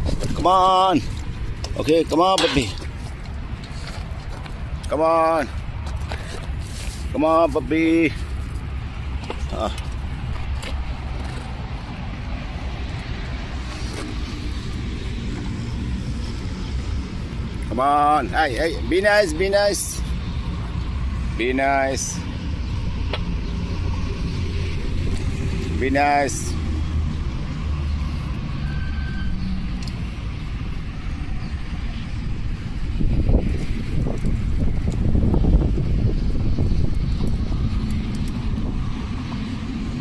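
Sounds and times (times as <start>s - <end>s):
low rumble of road traffic: 0.0s - 40.0s
vehicle engine hum passing: 1.0s - 40.0s.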